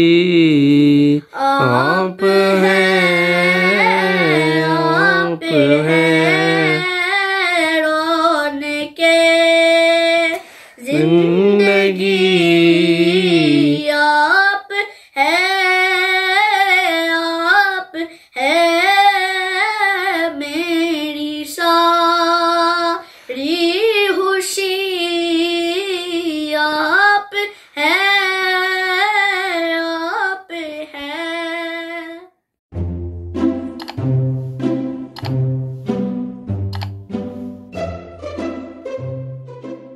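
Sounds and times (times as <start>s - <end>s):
boy singing unaccompanied: 0.0s - 32.3s.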